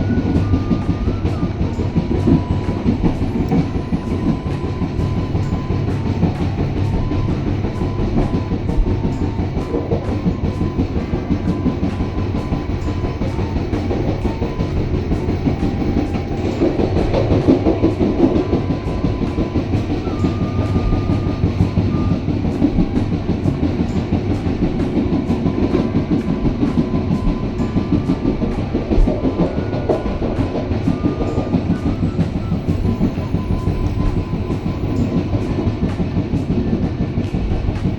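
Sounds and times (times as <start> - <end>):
train rumble on rails: 0.0 - 37.9
train wheel clicks: 0.0 - 37.9.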